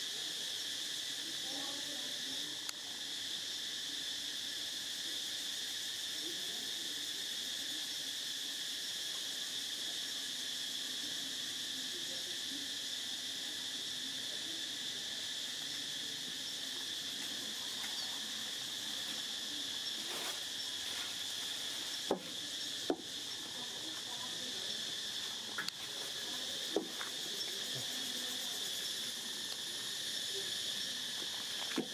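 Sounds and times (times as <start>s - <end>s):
insect chorus: 0.0s - 31.9s.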